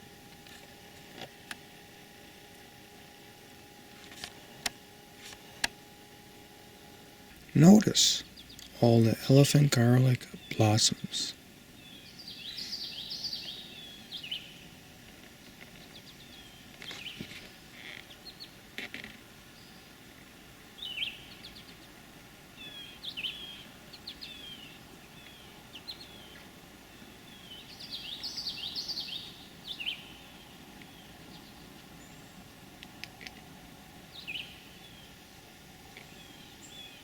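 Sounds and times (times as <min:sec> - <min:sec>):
faint outdoor hiss: 0:00.0 - 0:37.0
songbird singing: 0:00.0 - 0:37.0.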